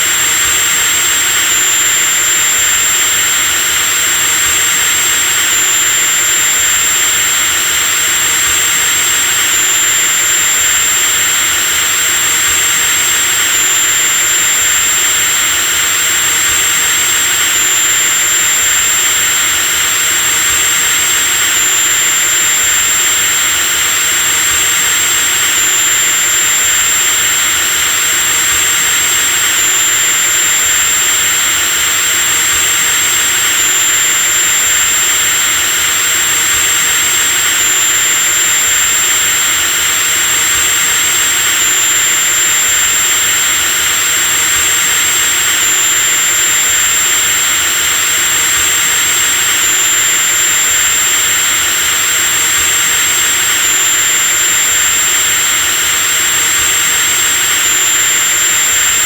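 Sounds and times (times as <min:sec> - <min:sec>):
electric drill motor whining: 0:00.0 - 0:59.0.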